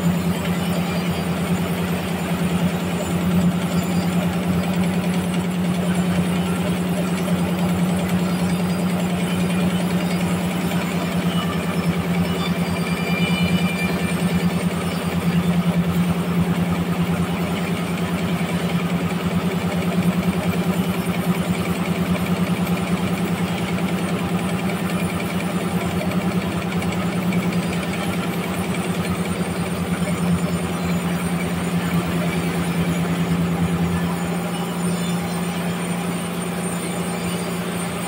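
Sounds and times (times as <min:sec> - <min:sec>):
sawmill machine hum: 0:00.0 - 0:38.0.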